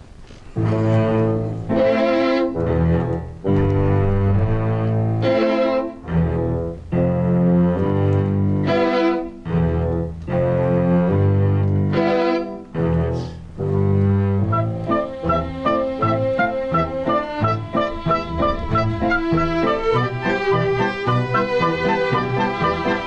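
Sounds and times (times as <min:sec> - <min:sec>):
string orchestra playing: 0:00.6 - 0:03.2, 0:03.9 - 0:23.0.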